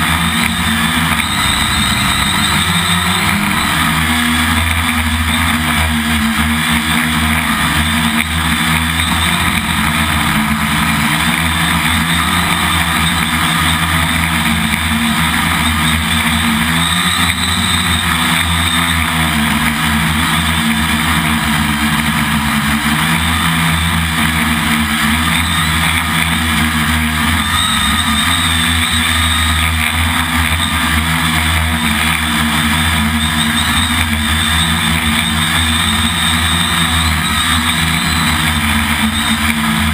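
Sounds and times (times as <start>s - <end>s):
quadcopter propellers buzzing: 0.0s - 39.9s.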